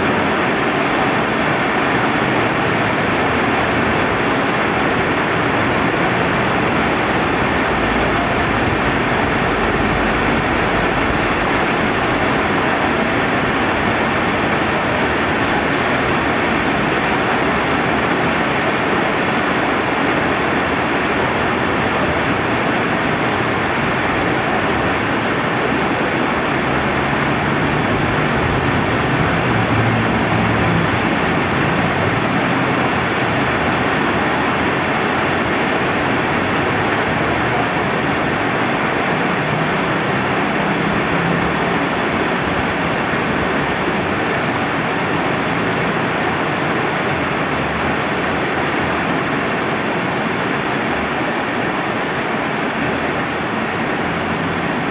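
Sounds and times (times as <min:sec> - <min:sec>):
rain falling: 0:00.0 - 0:54.9
river flowing: 0:00.0 - 0:54.9.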